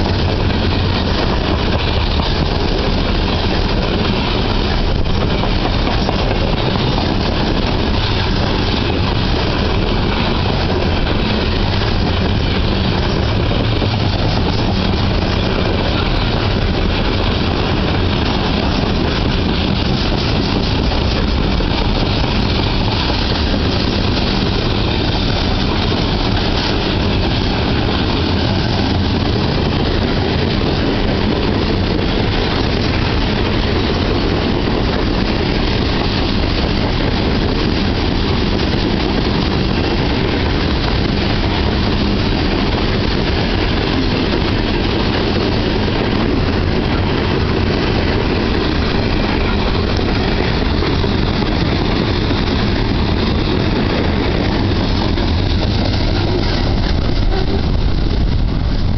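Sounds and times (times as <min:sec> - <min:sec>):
freight train wheels on rails: 0:00.0 - 0:58.9.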